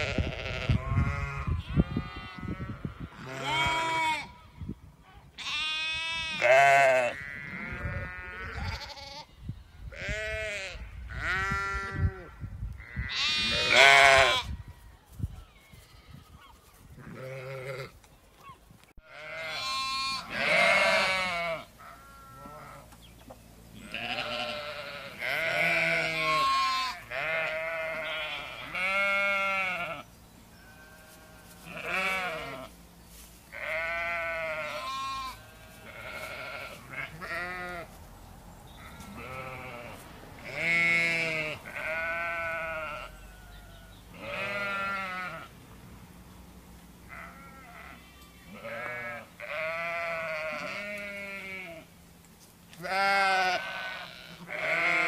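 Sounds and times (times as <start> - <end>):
sheep bleating: 0.0 - 4.5, 5.4 - 9.3, 9.9 - 14.5, 17.0 - 17.9, 19.0 - 22.9, 23.8 - 32.7, 33.5 - 37.9, 38.8 - 45.5, 47.1 - 51.9, 52.8 - 55.0.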